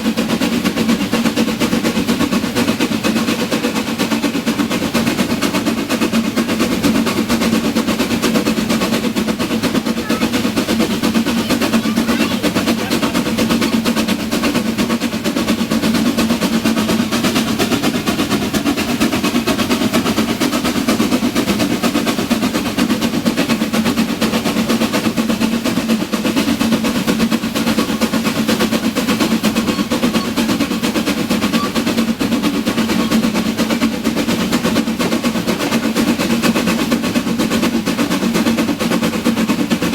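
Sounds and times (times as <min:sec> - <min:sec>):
steam train rattling: 0:00.0 - 0:39.9.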